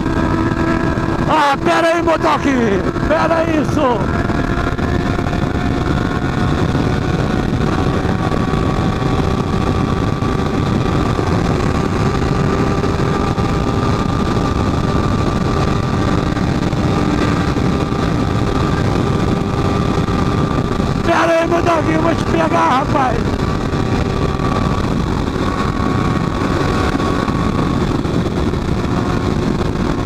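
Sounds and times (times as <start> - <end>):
motorcycle engine cruising: 0.0 - 30.0
wind rumble: 0.0 - 30.0.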